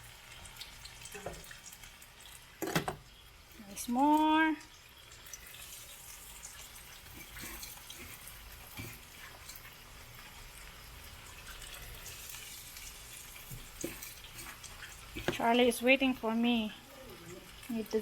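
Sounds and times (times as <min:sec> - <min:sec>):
meatballs sizzling in hot oil: 0:00.0 - 0:18.0.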